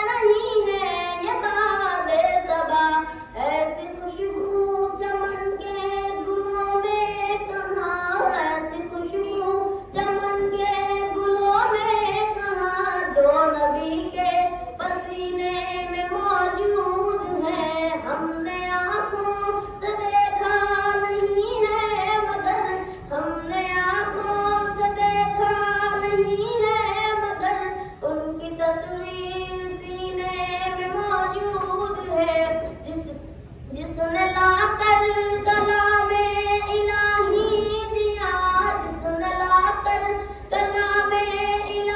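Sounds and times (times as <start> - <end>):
boy singing into a microphone: 0.0 - 41.9.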